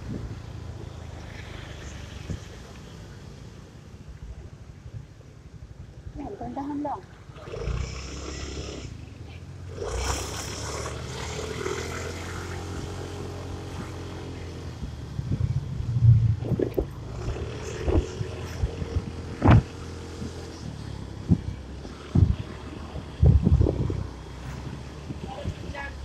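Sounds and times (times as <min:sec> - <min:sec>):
road and wind noise: 0:00.0 - 0:26.0.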